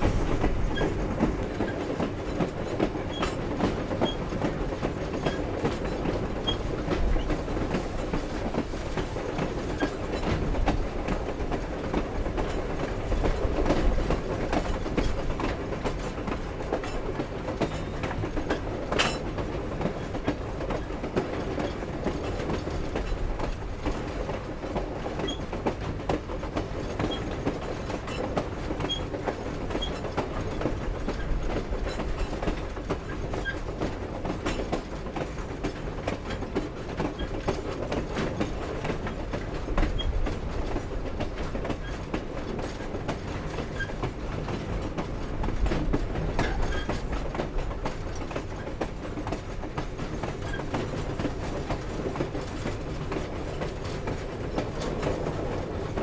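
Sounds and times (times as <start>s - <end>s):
clanks and clicks from train cars: 0.0s - 56.0s
train wheels rumbling on rails: 0.0s - 56.0s.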